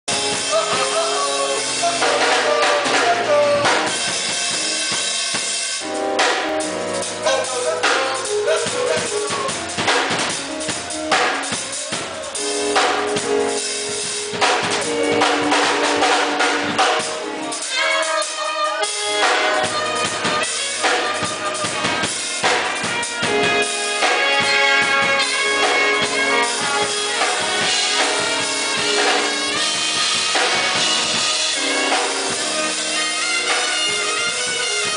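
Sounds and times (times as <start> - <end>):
music with drum beat: 0.1 - 34.9.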